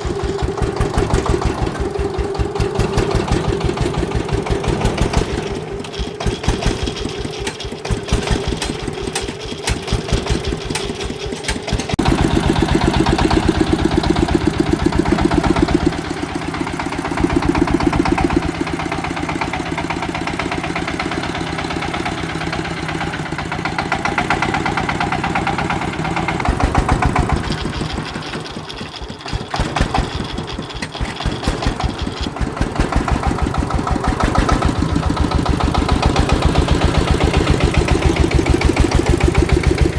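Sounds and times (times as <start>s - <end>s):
farm vehicle engine running: 0.0s - 39.9s.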